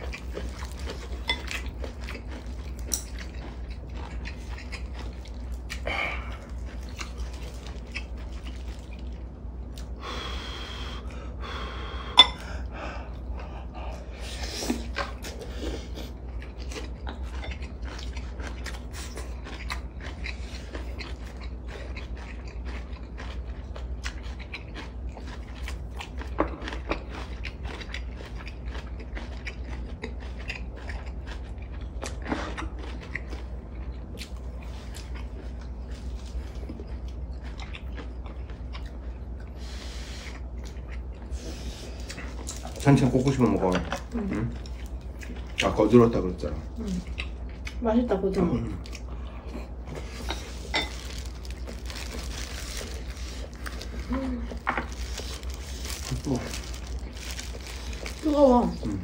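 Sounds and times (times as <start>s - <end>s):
people chewing: 0.0s - 59.0s
steady low hum: 0.0s - 59.0s.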